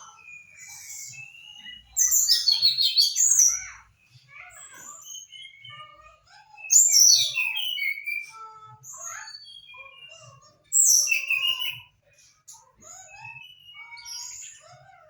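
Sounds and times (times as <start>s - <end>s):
songbird chirping and whistling: 0.0s - 15.0s.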